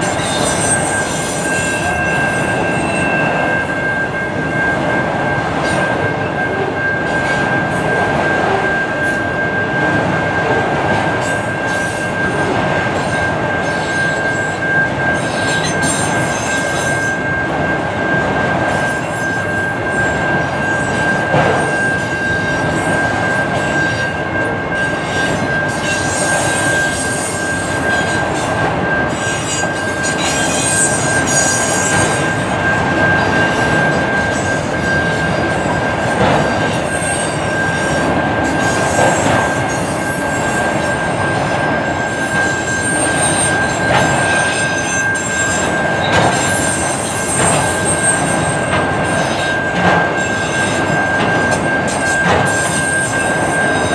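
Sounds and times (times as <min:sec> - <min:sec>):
high wheel squeal: 0:00.0 - 0:53.9
railroad cars rolling: 0:00.0 - 0:53.9.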